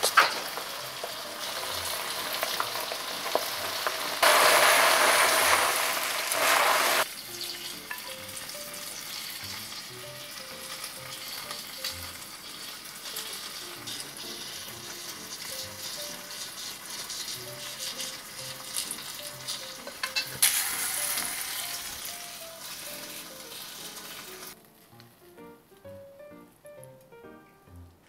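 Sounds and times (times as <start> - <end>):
quiet background music: 0.0 - 6.2, 7.0 - 28.0
food sizzling in a pot: 0.0 - 25.2.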